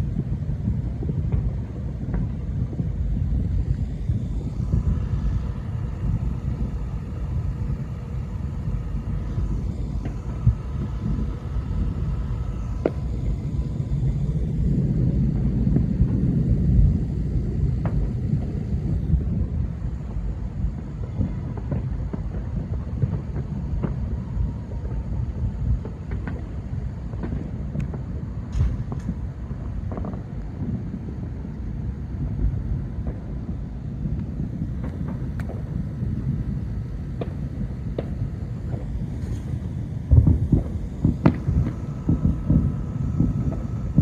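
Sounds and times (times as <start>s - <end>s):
distant fireworks rumbling: 0.0s - 44.0s
firework pops and cracks: 0.1s - 13.6s, 17.8s - 44.0s.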